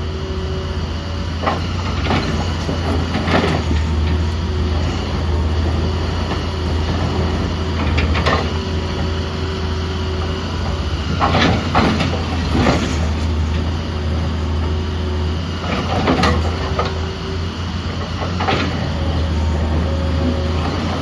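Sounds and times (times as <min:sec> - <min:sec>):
excavator diesel engine: 0:00.0 - 0:21.0
hydraulic whine: 0:00.0 - 0:21.0.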